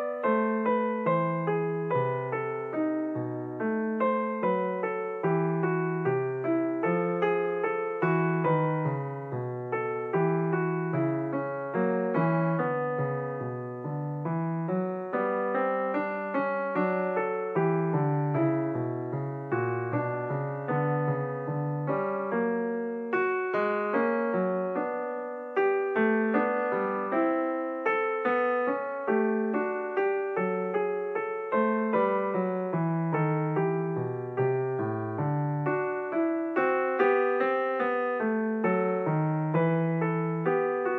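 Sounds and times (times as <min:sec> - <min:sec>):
slow piano music: 0:00.0 - 0:40.9.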